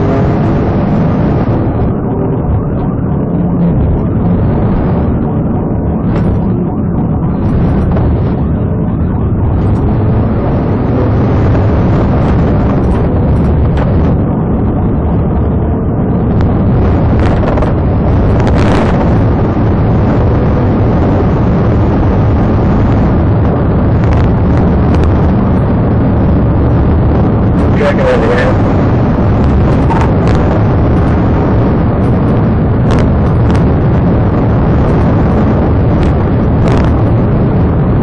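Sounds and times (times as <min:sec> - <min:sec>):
car rumbling on dirt road: 0:00.0 - 0:38.0.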